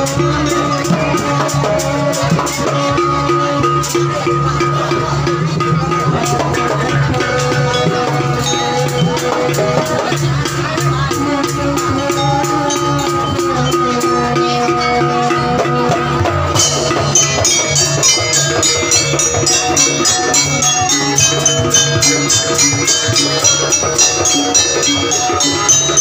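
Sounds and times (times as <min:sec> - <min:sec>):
bright high metallic notes: 0:00.0 - 0:26.0
drums: 0:00.0 - 0:26.0
metal percussion fast rhythm: 0:00.0 - 0:26.0.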